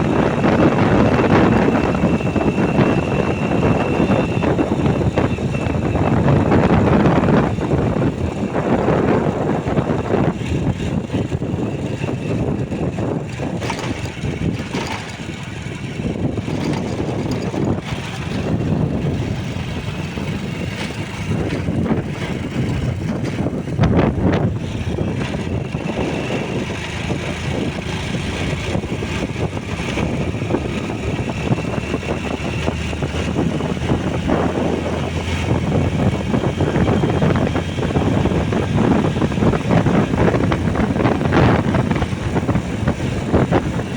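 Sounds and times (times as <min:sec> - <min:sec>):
motorcycle engine: 0:00.0 - 0:43.9.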